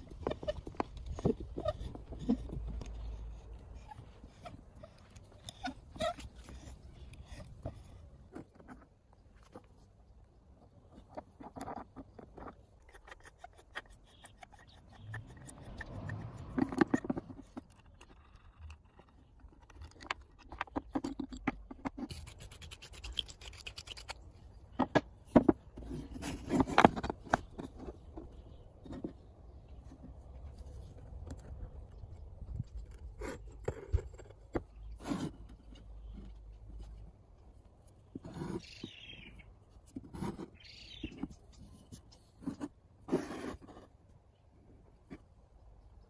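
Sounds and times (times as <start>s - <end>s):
wood and metal scraping and clicking: 0.0s - 9.9s, 10.6s - 44.0s.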